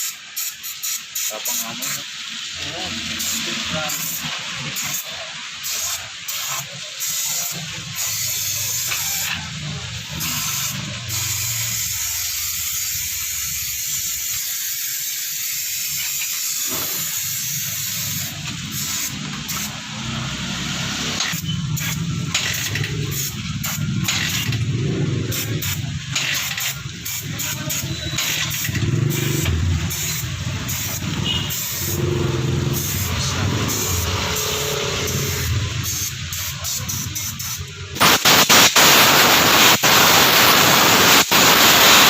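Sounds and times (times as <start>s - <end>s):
pressurised spray hissing: 0.0s - 42.0s.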